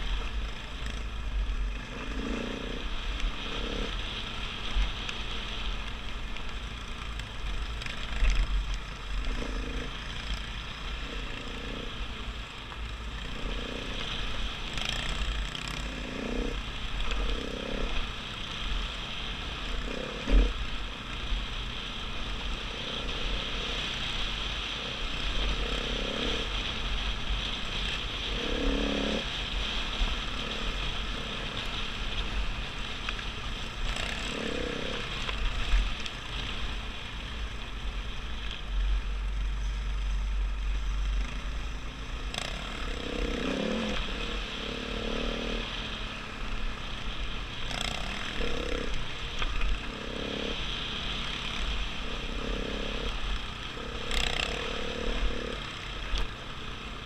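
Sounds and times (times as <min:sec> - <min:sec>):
dirt bike engine running: 0:00.0 - 0:57.0
wind rumble on microphone: 0:00.0 - 0:57.0.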